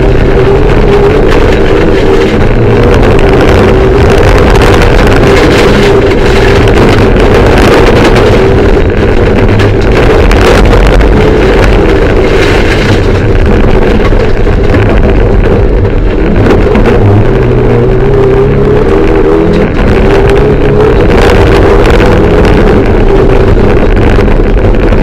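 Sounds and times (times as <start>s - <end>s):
road and tyre noise: 0.0s - 25.0s
turbocharged car engine under load: 0.0s - 25.0s.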